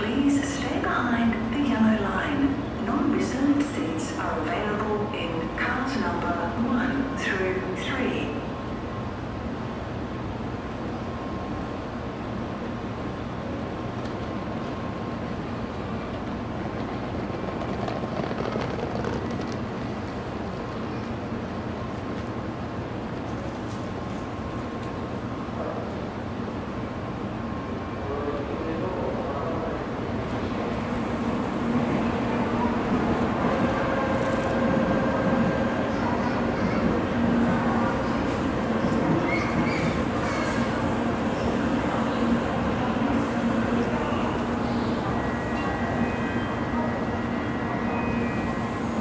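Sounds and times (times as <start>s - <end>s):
train humming at platform: 0.0s - 49.0s.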